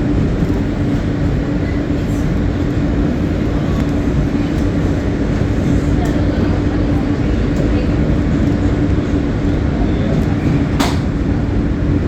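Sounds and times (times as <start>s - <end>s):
constant humming tone: 0.0s - 12.0s
train wheels rumbling on rails: 0.0s - 12.0s.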